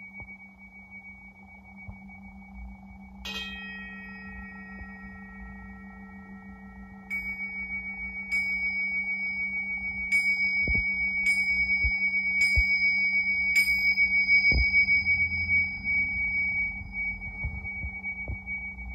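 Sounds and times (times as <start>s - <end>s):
metal instrument ringing: 0.0s - 18.9s
steady low hum: 0.0s - 18.9s.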